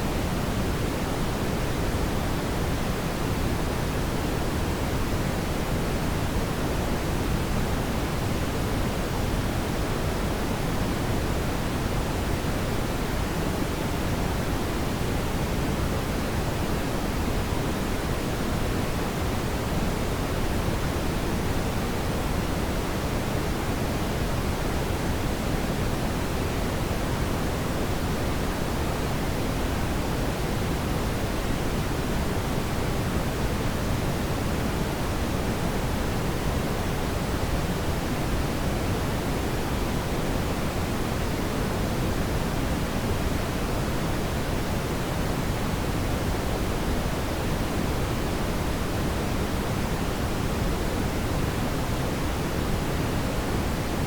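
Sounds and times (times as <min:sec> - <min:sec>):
steady brown noise: 0:00.0 - 0:54.0.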